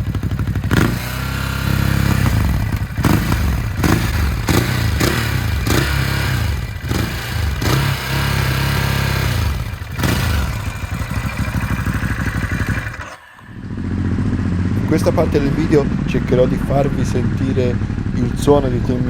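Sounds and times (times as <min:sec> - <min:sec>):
exhaust cracks: 0:00.0 - 0:19.0
motorcycle engine revving: 0:00.0 - 0:19.0.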